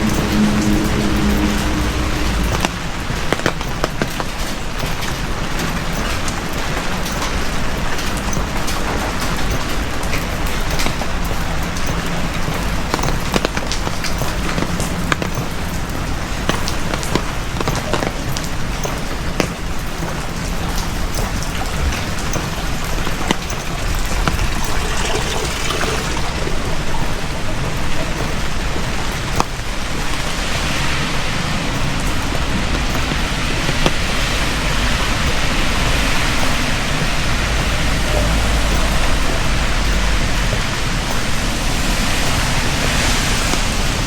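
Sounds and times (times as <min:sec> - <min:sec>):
heavy rain: 0:00.0 - 0:44.0
raindrop ticks: 0:00.0 - 0:44.0.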